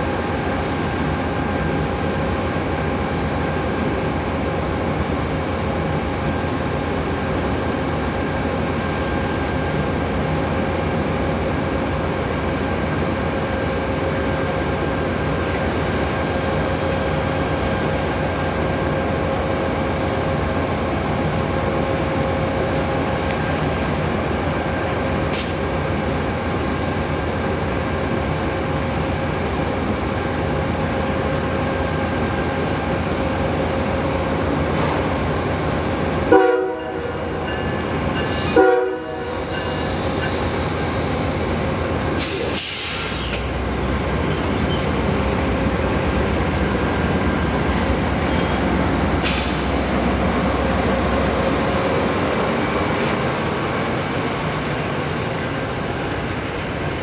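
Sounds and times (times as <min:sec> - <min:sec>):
idling train hum: 0:00.0 - 0:57.0.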